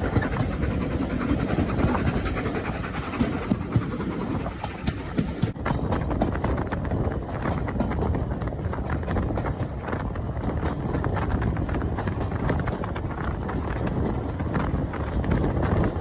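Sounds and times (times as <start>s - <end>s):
steady rushing noise: 0.0s - 16.0s
train rhythmic clatter: 0.0s - 16.0s.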